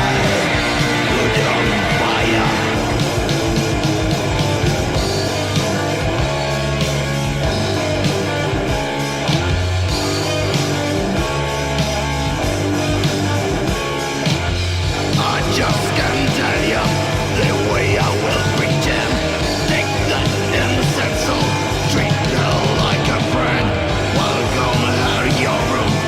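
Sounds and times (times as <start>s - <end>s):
bass guitar: 0.0s - 26.0s
distorted electric guitar riffing: 0.0s - 26.0s
drum kit: 0.0s - 26.0s.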